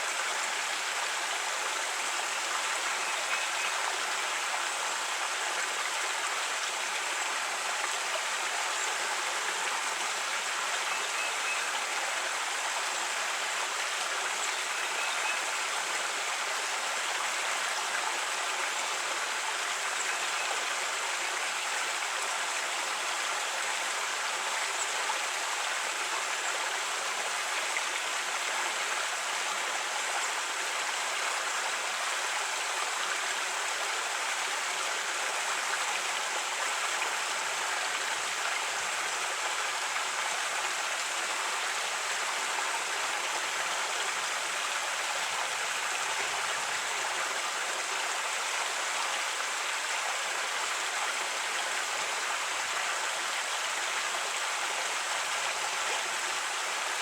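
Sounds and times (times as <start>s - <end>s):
creek water running over rocks: 0.0s - 57.0s.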